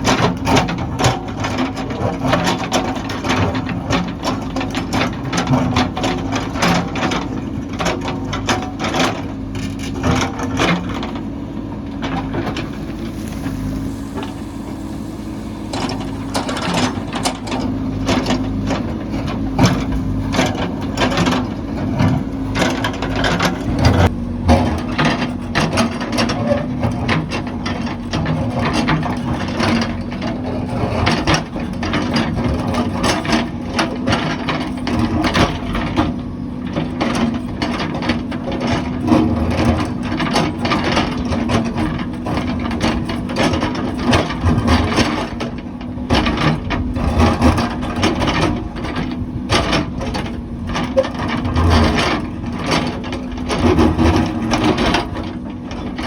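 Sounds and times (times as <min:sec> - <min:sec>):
engine hum: 0:00.0 - 0:56.0.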